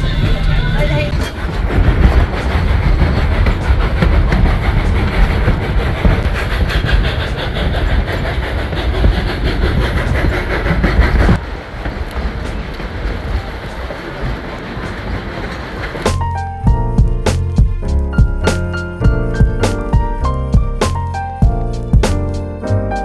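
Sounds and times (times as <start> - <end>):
train rolling rumble: 0.0 - 23.0
wheels clattering over rails: 0.0 - 23.0.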